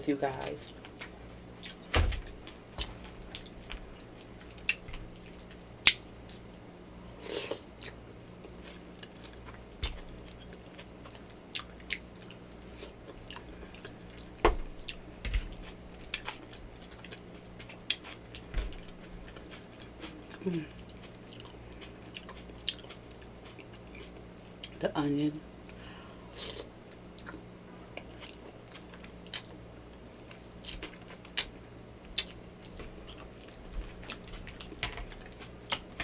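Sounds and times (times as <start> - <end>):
chewing and wet mouth sounds: 2.4 - 24.8, 25.6 - 29.6, 30.3 - 36.0.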